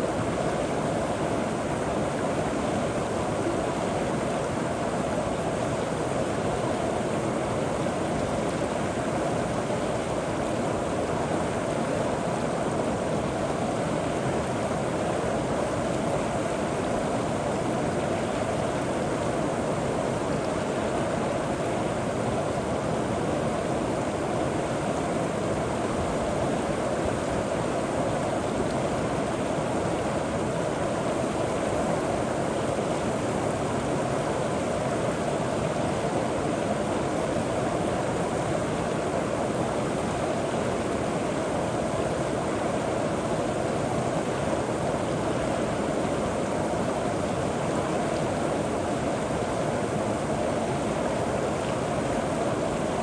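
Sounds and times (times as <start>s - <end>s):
river flowing over rocks: 0.0s - 53.0s.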